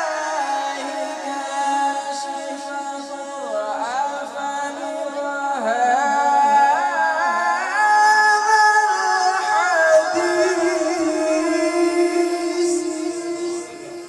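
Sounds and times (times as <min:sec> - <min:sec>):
man reciting in melodic chant: 0:00.0 - 0:14.0.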